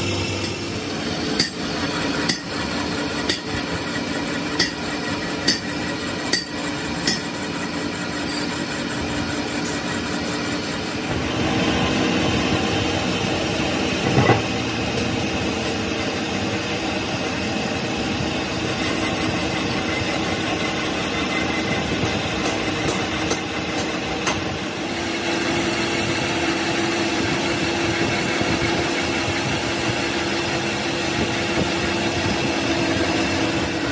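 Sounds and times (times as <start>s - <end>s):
lathe whirring: 0.0s - 33.9s.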